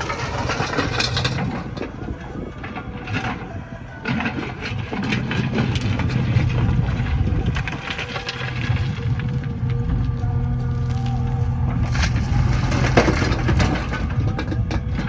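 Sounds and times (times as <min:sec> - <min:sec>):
diesel engine running: 0:00.0 - 0:15.0
knocks and clatter: 0:00.0 - 0:15.0.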